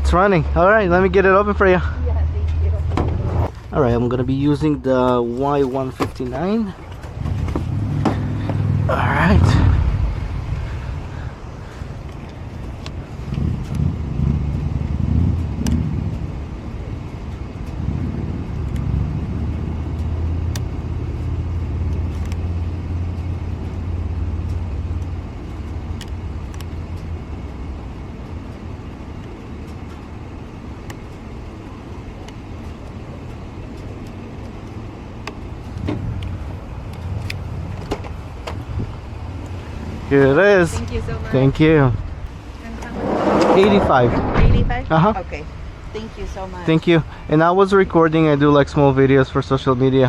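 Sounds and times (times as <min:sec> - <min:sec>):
car engine idling: 0:00.0 - 0:49.7.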